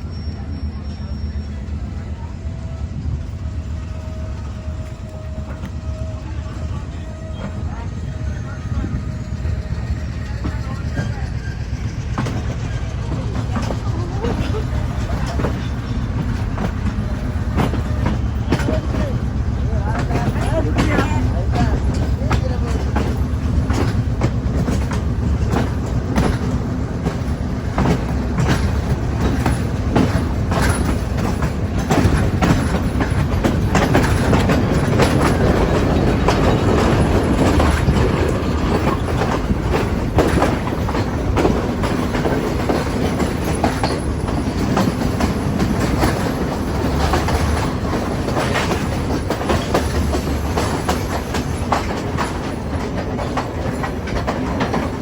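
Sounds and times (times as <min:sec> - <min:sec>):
low rumble of train cars: 0:00.0 - 0:55.0
wheels clacking over rail joints: 0:03.7 - 0:55.0.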